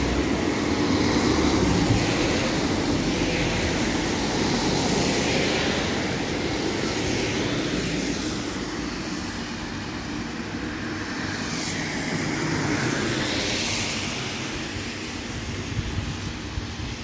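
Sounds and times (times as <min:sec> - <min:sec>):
cars passing on a wet road: 0:00.0 - 0:17.0
tyres hissing on wet tarmac: 0:00.0 - 0:17.0.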